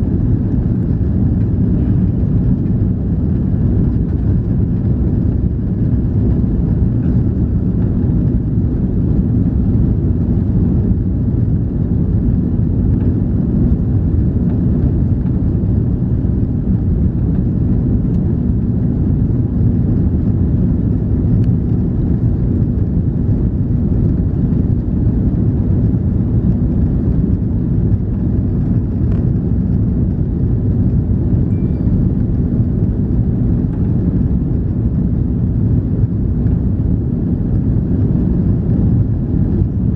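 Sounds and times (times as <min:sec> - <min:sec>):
airplane cabin roar: 0:00.0 - 0:39.9
faint engine hum: 0:00.0 - 0:39.9.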